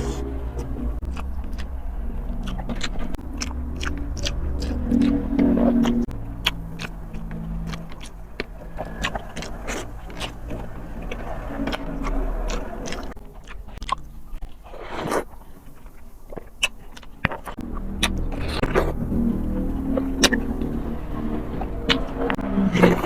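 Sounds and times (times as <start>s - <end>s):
low steady hum: 0.0s - 23.0s
person chewing food: 0.1s - 23.0s.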